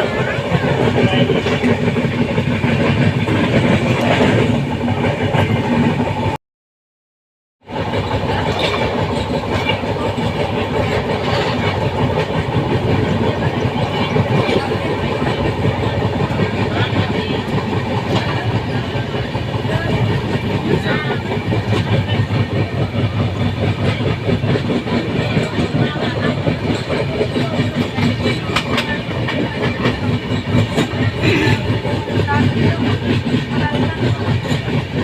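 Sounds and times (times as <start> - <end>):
train rumbling on rails: 0.0 - 6.4, 7.6 - 35.0.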